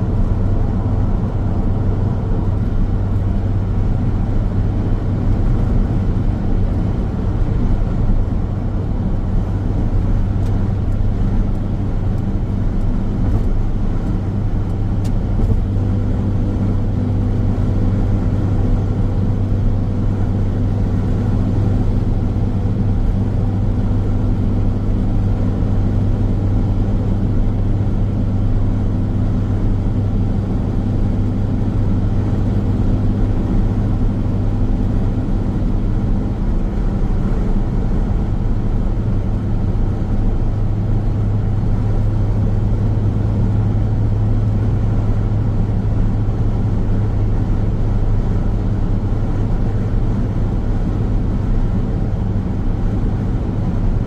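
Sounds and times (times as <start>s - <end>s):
car road noise drone: 0.0s - 54.0s.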